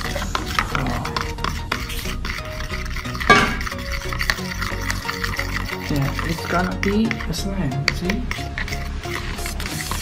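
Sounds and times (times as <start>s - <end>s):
fork scraping a ceramic bowl: 0.0s - 10.0s
fork tines clicking on bowl: 0.0s - 10.0s.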